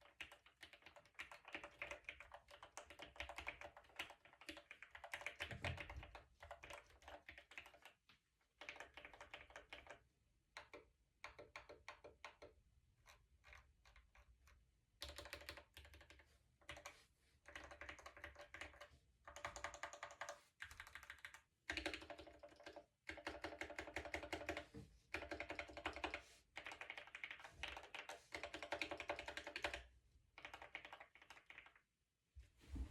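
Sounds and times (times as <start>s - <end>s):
typing on mechanical keyboard: 0.0s - 31.8s.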